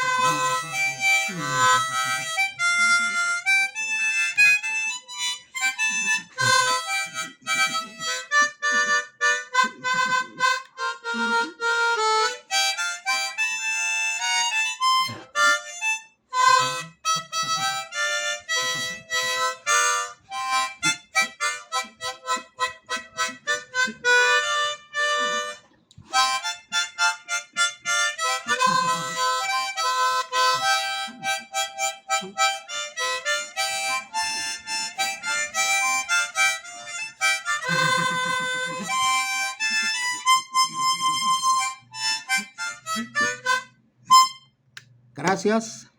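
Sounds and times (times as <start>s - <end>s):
harmonica playing a tune: 0.0s - 44.6s.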